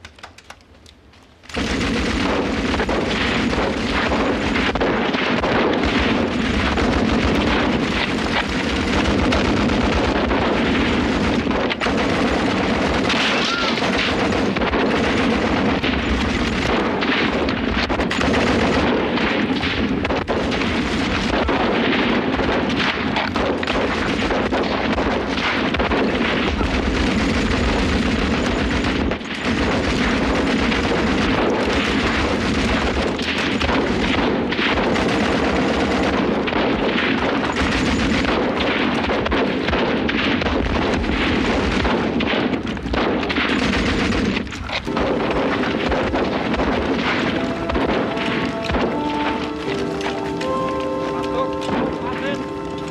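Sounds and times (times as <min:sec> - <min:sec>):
rifle fire: 0:01.4 - 0:52.9
artillery booms: 0:01.5 - 0:52.9
machine-gun bursts: 0:01.5 - 0:52.9.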